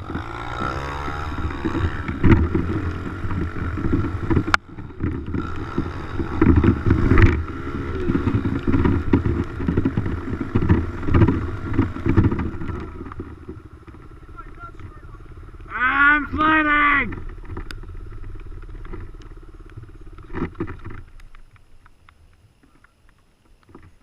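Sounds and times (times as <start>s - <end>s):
dirt bike engine revving: 0.0s - 21.2s.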